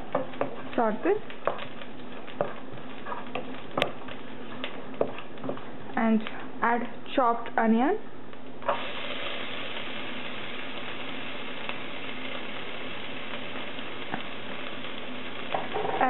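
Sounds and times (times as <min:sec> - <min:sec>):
onion sizzling in hot oil: 0:00.0 - 0:06.3, 0:08.4 - 0:16.0.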